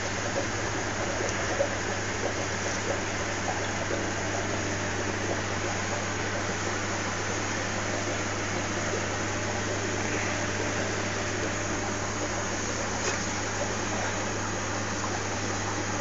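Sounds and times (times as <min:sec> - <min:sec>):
aquarium pump hum and hiss: 0:00.0 - 0:16.0.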